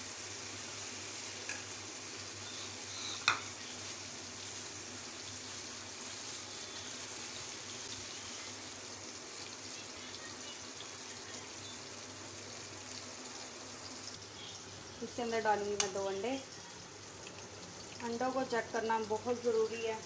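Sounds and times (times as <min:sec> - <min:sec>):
onions and tomatoes sizzling in pan: 0:00.0 - 0:20.0.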